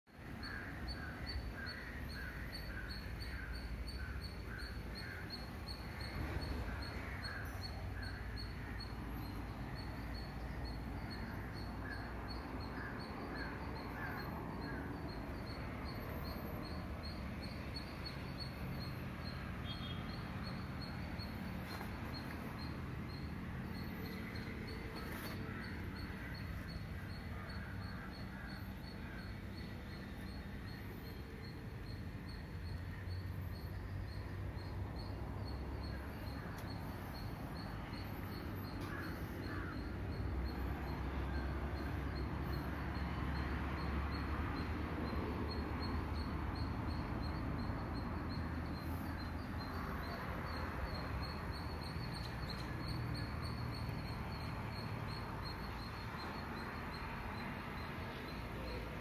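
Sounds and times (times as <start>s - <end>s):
lower bird chirps: 0.2s - 58.9s.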